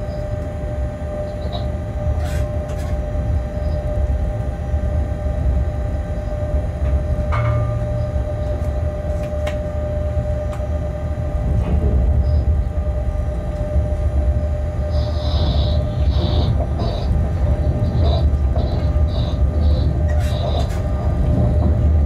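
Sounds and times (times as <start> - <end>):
constant whine: 0.0 - 22.0
locomotive low rumble: 0.0 - 22.0.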